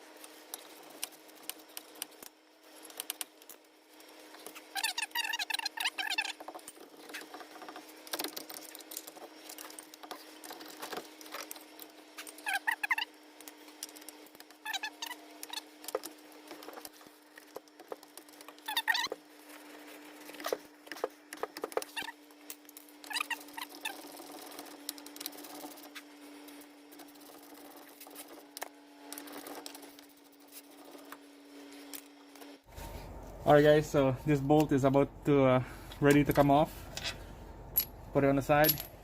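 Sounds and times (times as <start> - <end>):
steady low hum: 6.8 - 39.0.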